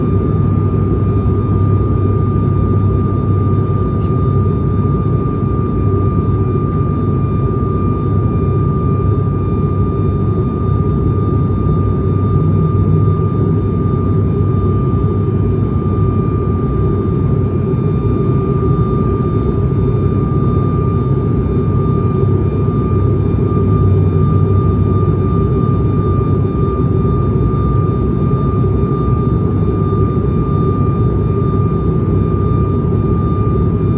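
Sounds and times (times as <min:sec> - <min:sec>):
propeller engines droning in cabin: 0:00.0 - 0:33.9.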